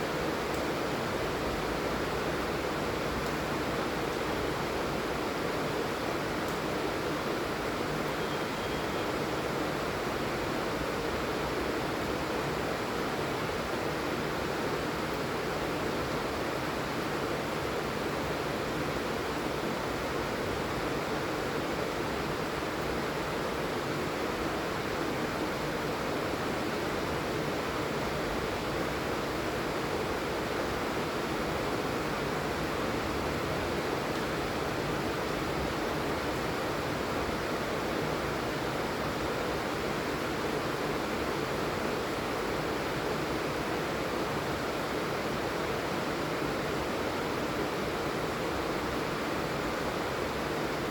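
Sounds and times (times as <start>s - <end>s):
heavy rain hiss: 0.0s - 50.9s.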